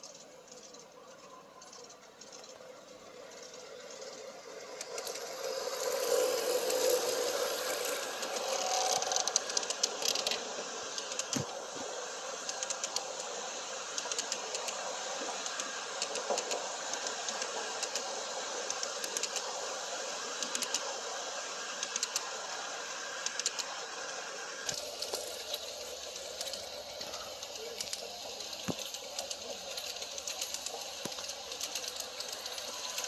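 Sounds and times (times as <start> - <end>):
model train rolling hiss: 0.0 - 33.0
wheels clicking on rails: 0.0 - 33.0.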